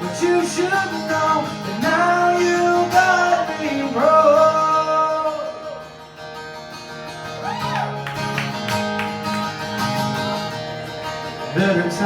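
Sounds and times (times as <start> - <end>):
acoustic guitar playing chords: 0.0 - 12.0.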